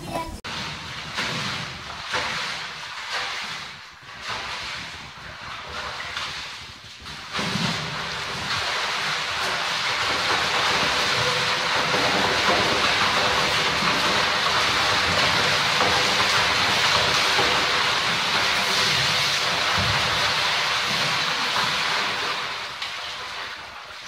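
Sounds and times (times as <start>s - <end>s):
water splashing in a pool: 0.4s - 24.0s.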